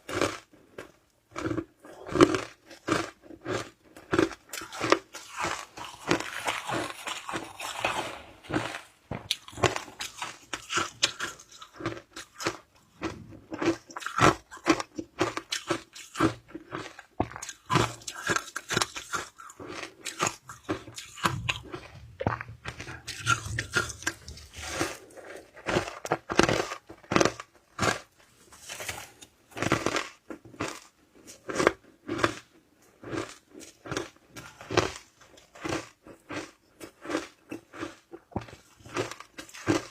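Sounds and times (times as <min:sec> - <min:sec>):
chewing shaved ice: 0:00.0 - 0:39.9.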